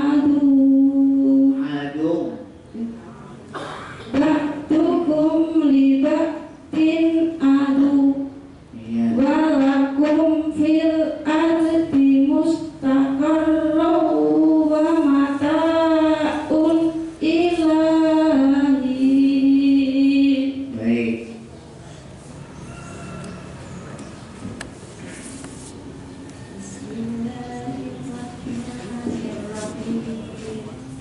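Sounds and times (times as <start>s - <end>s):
woman chanting into a microphone: 0.0s - 20.8s, 26.6s - 31.0s.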